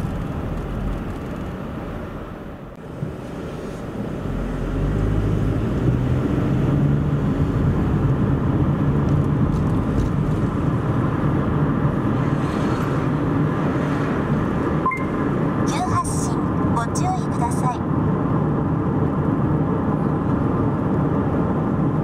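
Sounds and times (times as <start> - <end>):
car engine hum: 0.0 - 22.0
road noise: 0.0 - 22.0.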